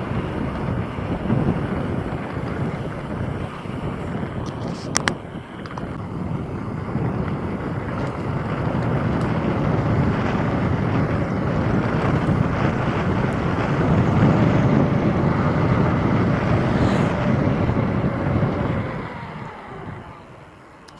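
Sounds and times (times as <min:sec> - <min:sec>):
wind rushing over microphone: 0:00.0 - 0:20.6.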